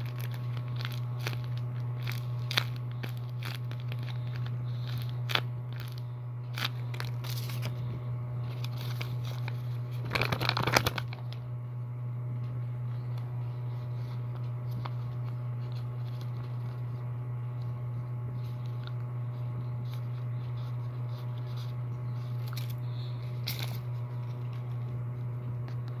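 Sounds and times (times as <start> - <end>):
paper and plastic wrappers crinkling: 0.0 - 11.4, 13.7 - 17.0, 19.6 - 26.0
steady low hum: 0.0 - 26.0.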